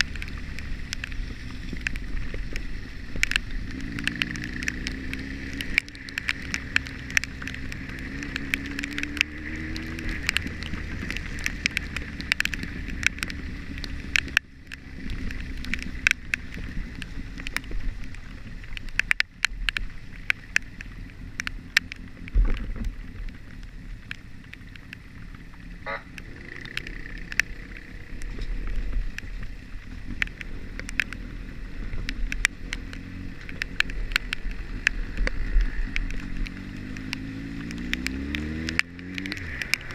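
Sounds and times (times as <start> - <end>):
sharp ticks: 0.0 - 22.7, 23.5 - 29.6, 30.2 - 39.9
wind rumble on microphone: 0.0 - 39.9.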